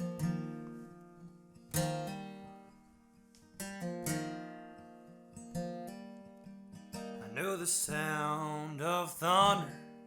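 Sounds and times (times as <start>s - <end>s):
acoustic guitar chords strummed: 0.0s - 2.9s, 3.5s - 10.0s.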